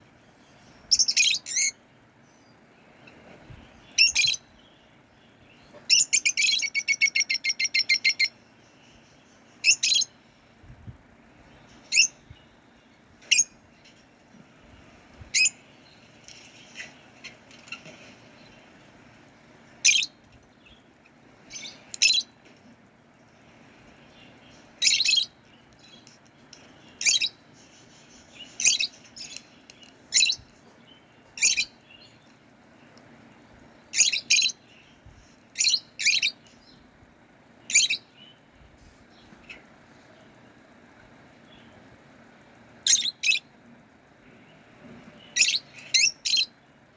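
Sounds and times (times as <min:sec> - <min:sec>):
lovebirds chirping: 0:00.0 - 0:10.6, 0:11.2 - 0:43.6, 0:44.3 - 0:46.9.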